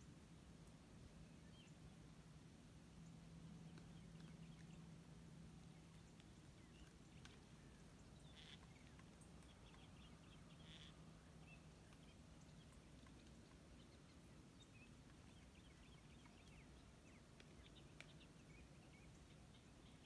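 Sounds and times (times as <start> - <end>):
low steady hum: 0.0 - 20.0
soft ticks and chirps: 0.0 - 20.0.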